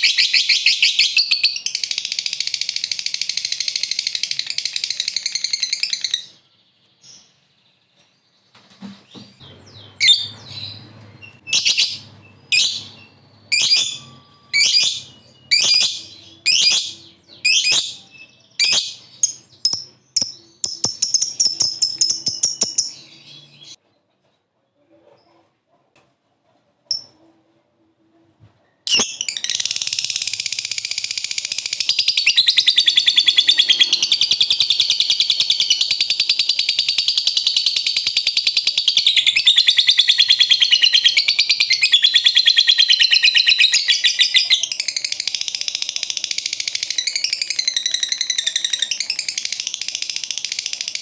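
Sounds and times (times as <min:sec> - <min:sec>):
lovebird chirping trills: 0:00.0 - 0:23.8, 0:28.8 - 0:51.0.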